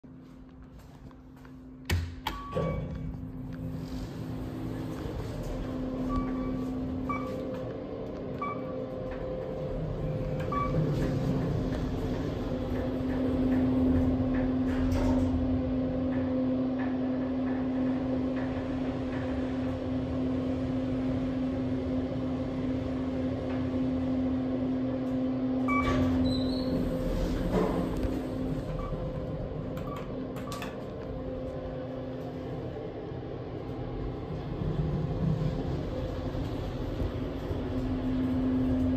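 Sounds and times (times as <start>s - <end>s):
elevator cab humming: 0.2s - 38.9s.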